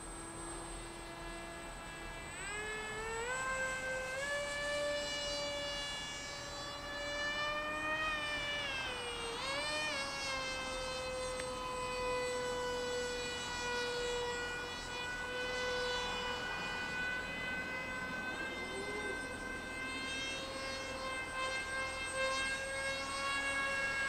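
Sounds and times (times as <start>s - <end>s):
model aircraft electric motor whining: 0.0s - 24.0s.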